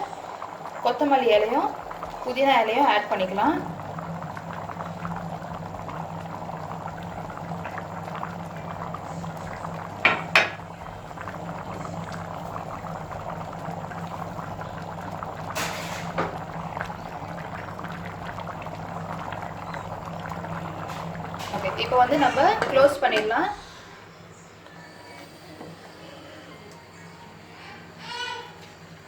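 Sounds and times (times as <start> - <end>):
water and rice bubbling: 0.0 - 23.9.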